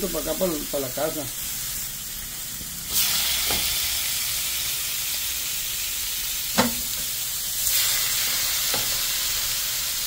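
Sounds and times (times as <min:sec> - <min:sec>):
steaks sizzling on a griddle: 0:00.0 - 0:10.0.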